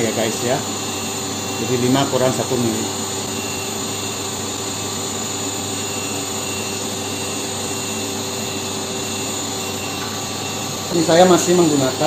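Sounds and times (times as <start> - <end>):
dust extraction vacuum hum: 0.0 - 12.0.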